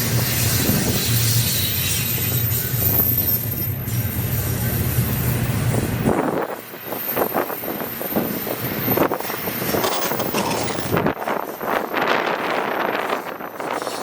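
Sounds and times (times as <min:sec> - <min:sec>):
freight train cars rattling past: 0:00.0 - 0:14.0.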